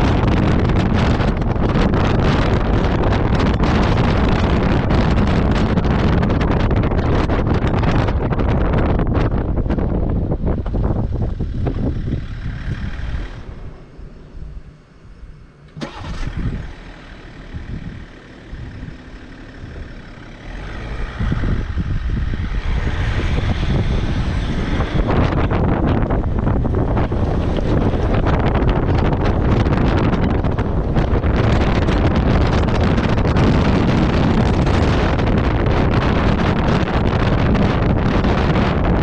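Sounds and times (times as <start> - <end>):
off-road vehicle engine: 0.0 - 39.0
wind buffeting microphone: 0.0 - 39.0.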